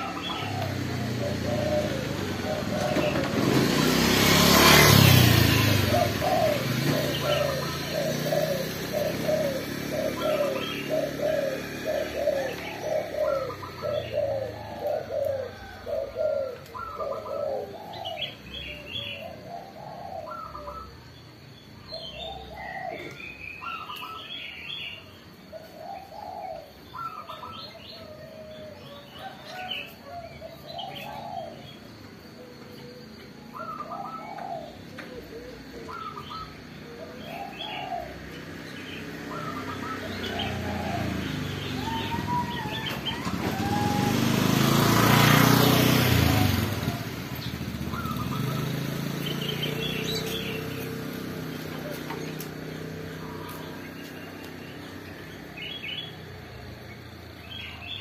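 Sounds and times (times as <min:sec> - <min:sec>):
doves cooing: 0:00.0 - 0:58.0
high chirping calls: 0:00.0 - 0:58.0.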